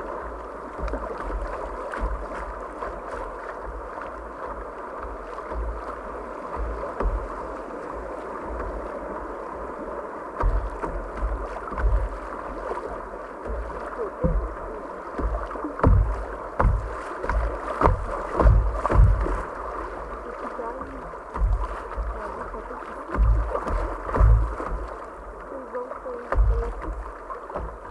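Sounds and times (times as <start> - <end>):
paddle splashes and knocks: 0.0 - 27.9
water rushing: 0.0 - 27.9.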